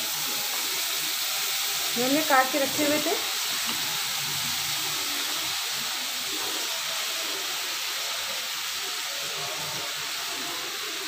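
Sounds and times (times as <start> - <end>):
banana sizzling in oil: 0.0 - 11.0.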